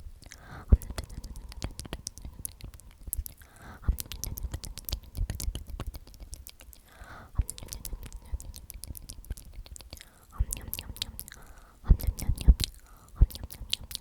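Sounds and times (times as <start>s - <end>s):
person whispering: 0.0s - 14.0s
wet mouth clicks and smacks: 0.1s - 14.0s.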